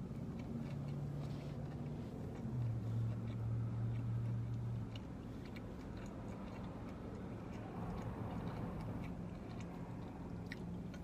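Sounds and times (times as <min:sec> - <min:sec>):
quiet chewing: 0:00.0 - 0:11.0.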